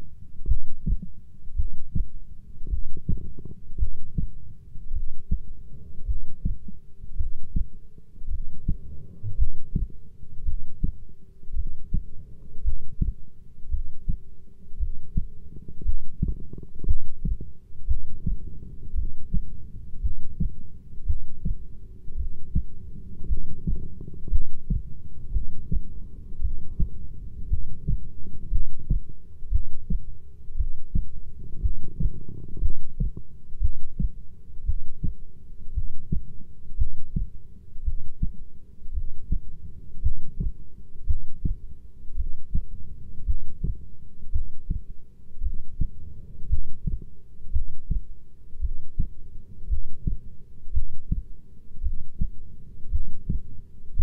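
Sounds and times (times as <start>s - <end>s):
heartbeat thudding: 0.4s - 54.0s.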